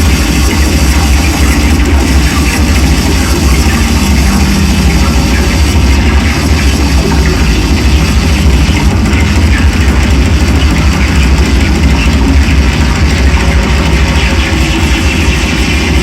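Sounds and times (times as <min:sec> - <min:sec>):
distorted noise music: 0:00.0 - 0:16.0
heavy low drone: 0:00.0 - 0:16.0.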